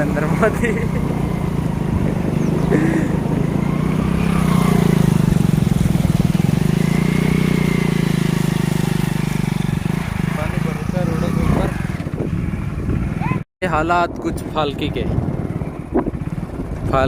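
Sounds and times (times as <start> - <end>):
motorcycle engine running: 0.0 - 13.4, 14.4 - 17.0.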